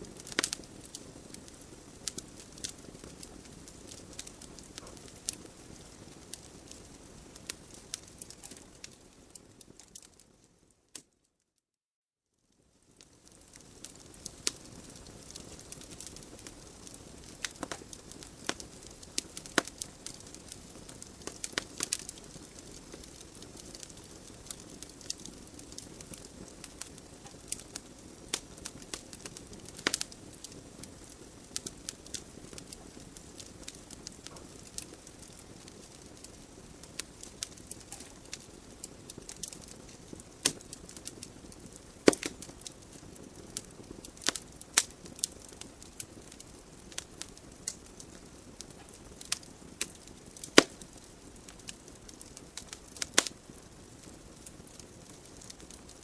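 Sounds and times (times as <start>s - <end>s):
burning logs crackling and popping: 0.0s - 11.2s, 12.6s - 56.0s
soft hiss of flames: 0.0s - 11.2s, 12.3s - 56.0s.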